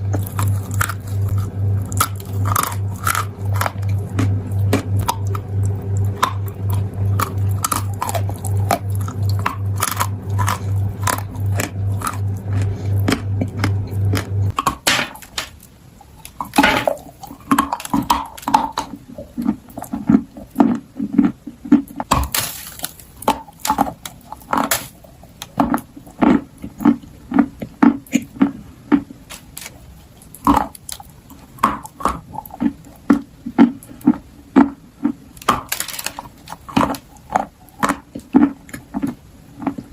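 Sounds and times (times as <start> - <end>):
crunchy biting and chewing: 0.0 - 39.9
low pulsing hum: 0.0 - 39.9.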